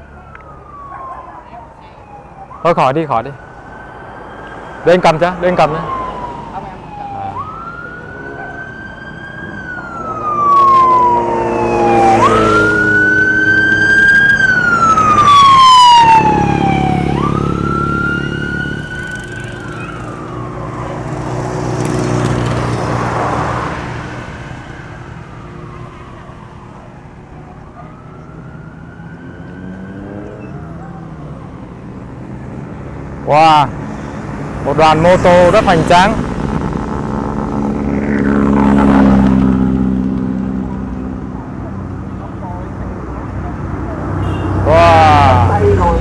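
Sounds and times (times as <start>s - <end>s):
police sirens wailing: 0.0s - 46.0s
vehicles passing: 0.0s - 46.0s.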